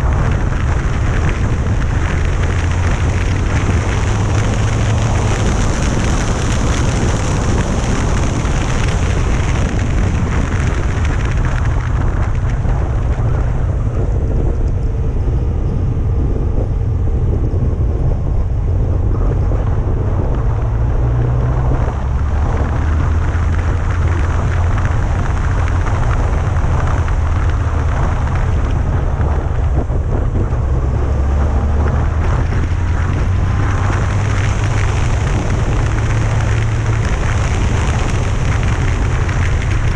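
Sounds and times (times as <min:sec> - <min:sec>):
motorcycle engine drone: 0:00.0 - 0:39.9
wind rushing over microphone: 0:00.0 - 0:39.9.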